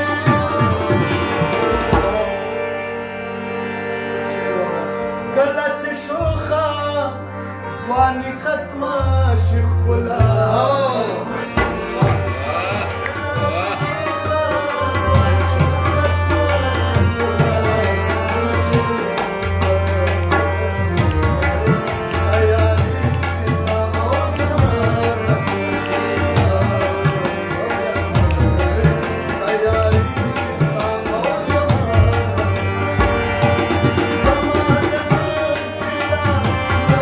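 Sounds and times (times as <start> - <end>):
man singing: 0.0 - 2.8, 4.6 - 37.0
harmonium chords: 0.0 - 37.0.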